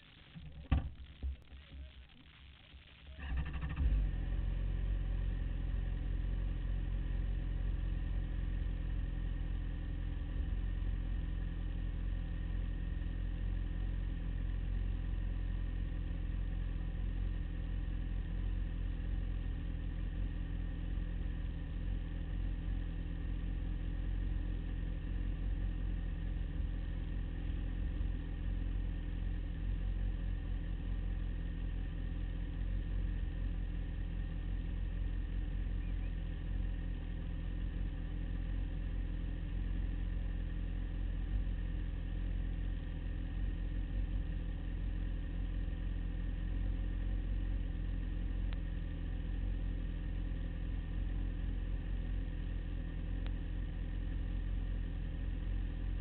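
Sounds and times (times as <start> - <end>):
motorcycle engine idling: 3.2 - 56.0.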